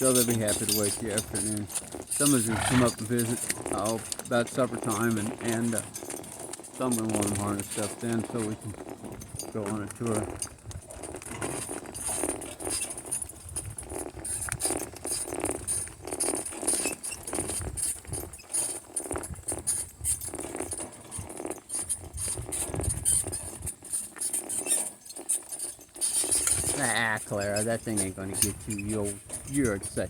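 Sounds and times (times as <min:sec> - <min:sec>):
donkey hoofbeats: 0:00.0 - 0:30.0.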